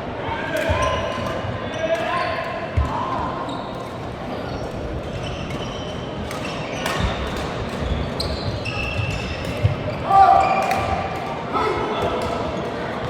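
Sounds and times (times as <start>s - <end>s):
shoes squeaking on court floor: 0.6s - 11.2s.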